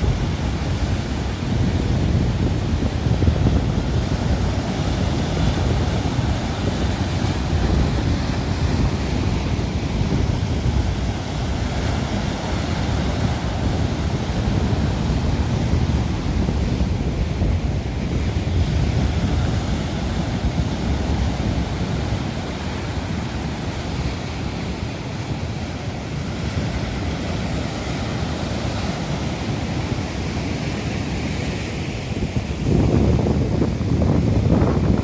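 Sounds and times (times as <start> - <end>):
surf rushing: 0.0 - 35.0
wind buffeting microphone: 0.0 - 35.0.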